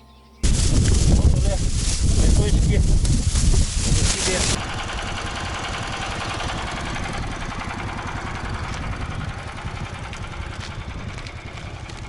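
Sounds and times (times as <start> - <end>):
small engine idling: 0.4 - 12.0.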